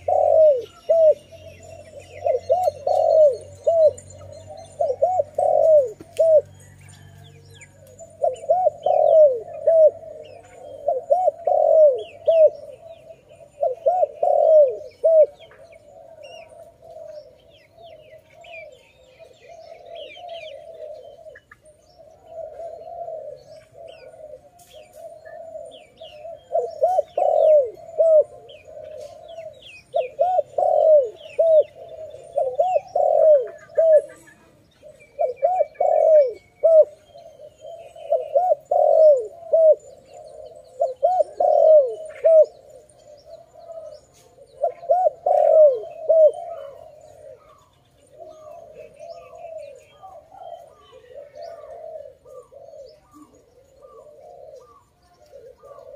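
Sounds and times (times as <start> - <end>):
dove cooing: 0.0 - 55.9
small birds chirping: 0.0 - 55.9.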